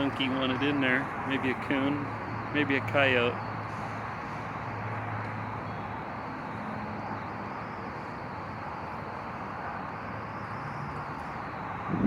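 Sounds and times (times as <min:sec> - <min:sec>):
outdoor rushing noise: 0:00.0 - 0:12.0.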